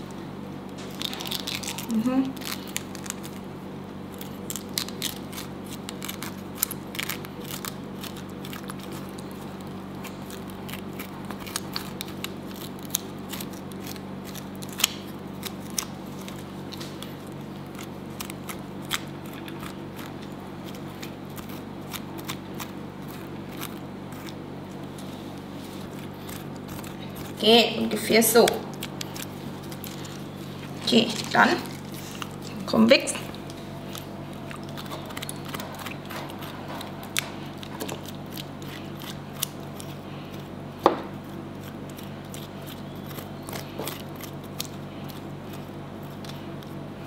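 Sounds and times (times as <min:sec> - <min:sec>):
steady low hum: 0:00.0 - 0:47.0
spoon scraping pineapple flesh: 0:04.2 - 0:32.6, 0:33.4 - 0:46.9.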